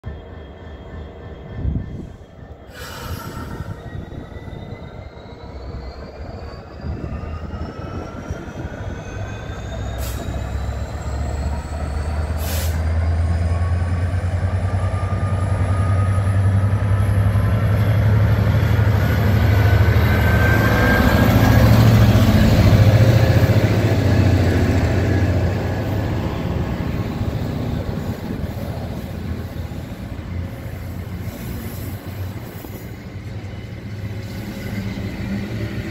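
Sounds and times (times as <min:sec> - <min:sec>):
diesel locomotive engine drone: 0:00.0 - 0:35.9.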